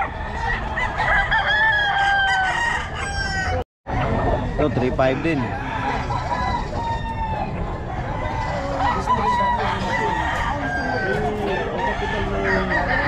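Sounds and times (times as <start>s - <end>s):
roosters crowing and clucking: 0.0s - 13.0s.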